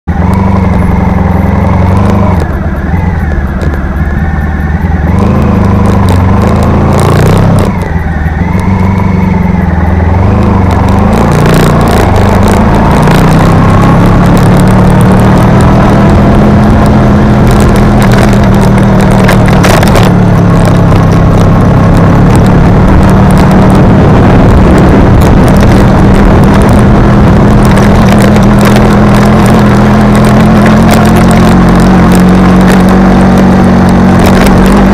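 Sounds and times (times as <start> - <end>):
vehicle engine driving uphill: 0.0 - 34.9
noisy rush with crackles: 0.1 - 34.9.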